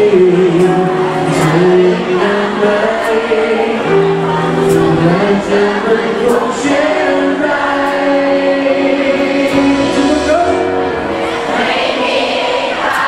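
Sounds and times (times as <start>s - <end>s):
people singing long notes: 0.0s - 13.0s
pop band playing: 0.0s - 13.0s.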